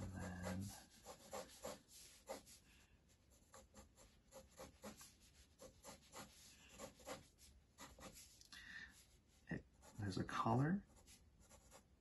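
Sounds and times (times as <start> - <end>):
pencil sketching on paper: 0.0 - 8.4, 9.0 - 10.2, 10.8 - 12.0.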